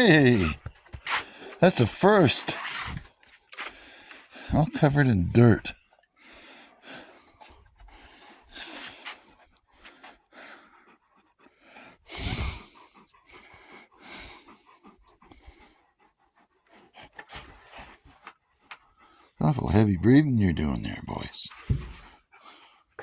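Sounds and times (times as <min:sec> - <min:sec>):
dogs panting heavily: 0:00.0 - 0:19.8, 0:21.6 - 0:23.0.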